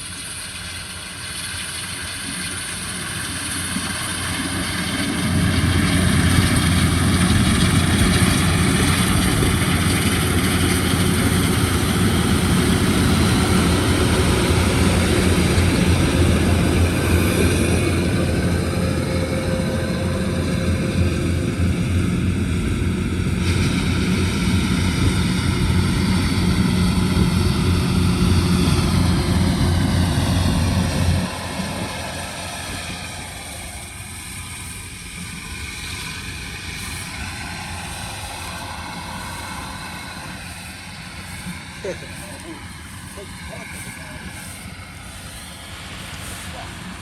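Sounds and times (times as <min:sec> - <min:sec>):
combine harvester engine rumble: 0:00.0 - 0:47.0.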